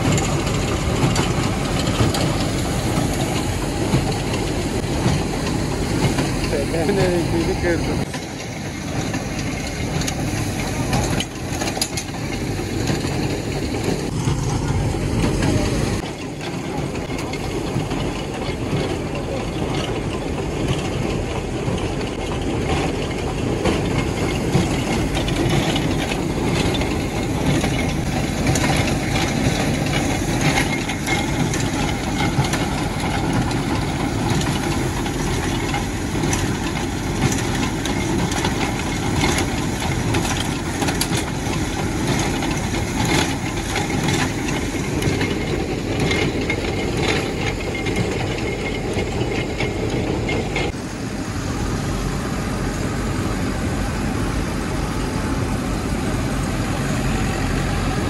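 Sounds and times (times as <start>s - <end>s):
machinery running: 0.0s - 58.0s.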